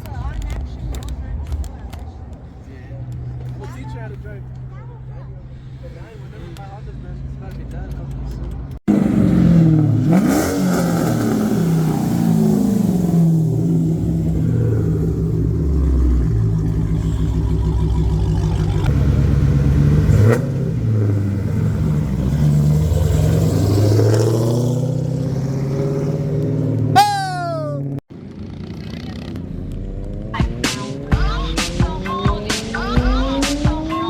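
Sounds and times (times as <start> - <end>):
vehicle engines revving: 0.0 - 34.0.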